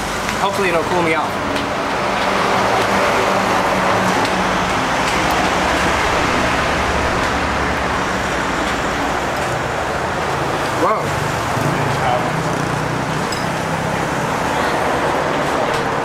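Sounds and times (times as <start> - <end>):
engine running close by: 0.0 - 16.0
highway traffic noise: 0.0 - 16.0.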